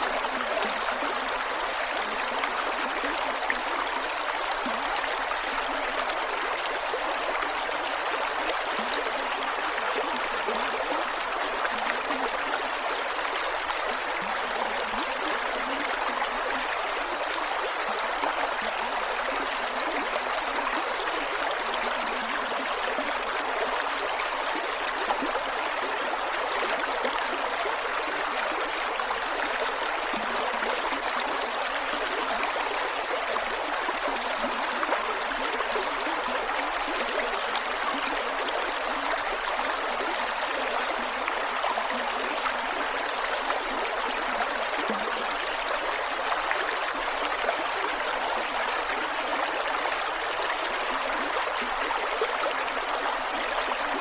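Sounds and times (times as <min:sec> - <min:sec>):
creek water flowing over rocks: 0:00.0 - 0:54.0.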